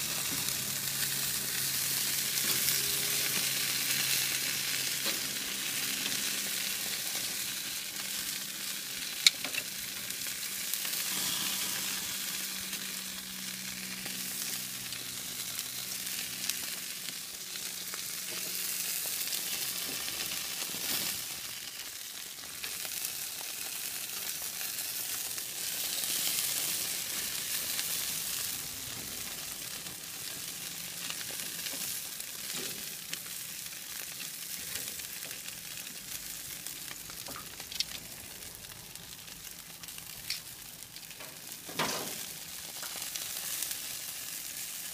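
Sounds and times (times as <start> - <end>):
meat sizzling on a grill: 0.0 - 44.9.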